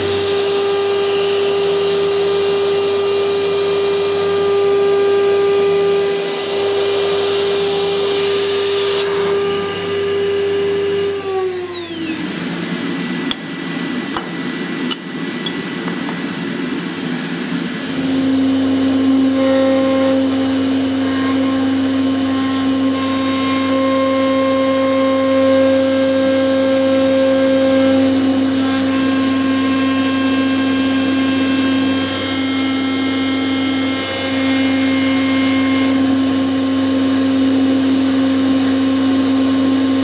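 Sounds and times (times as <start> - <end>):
router spindle whining: 0.0 - 13.0, 17.8 - 40.0.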